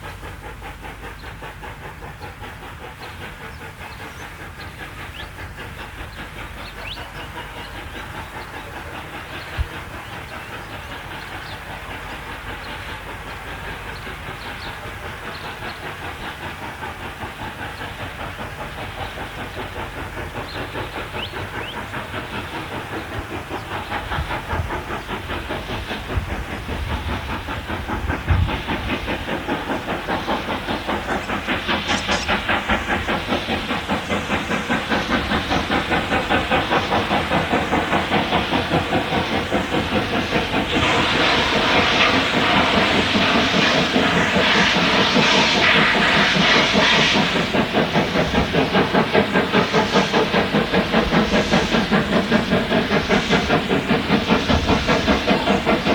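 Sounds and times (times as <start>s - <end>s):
hissing steam: 0.0s - 55.9s
steam locomotive exhaust beats: 0.0s - 55.9s.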